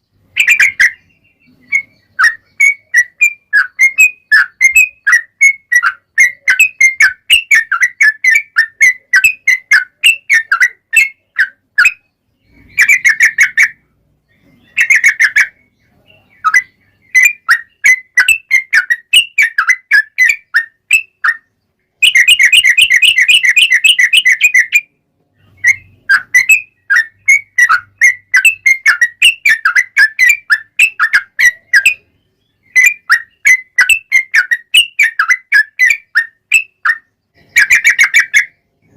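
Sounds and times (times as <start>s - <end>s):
bulbul singing chirpy whistled notes: 0.0s - 38.9s.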